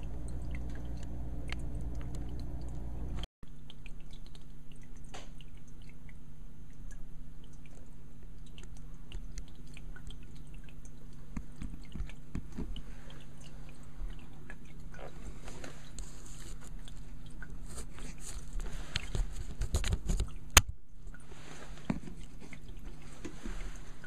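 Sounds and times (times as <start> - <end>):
aquarium pump humming: 0.0 - 24.0
water ticks and drips: 0.0 - 24.0.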